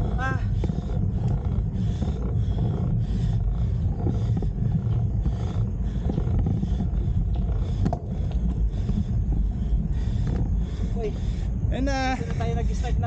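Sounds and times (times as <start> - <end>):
person panting heavily: 0.0 - 13.0
wind rumble on microphone: 0.0 - 13.0.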